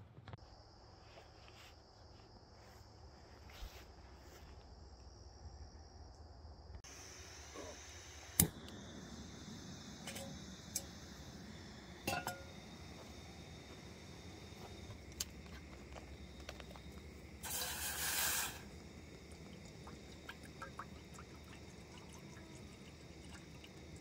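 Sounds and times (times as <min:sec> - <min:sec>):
insects trilling: 0:00.5 - 0:24.0.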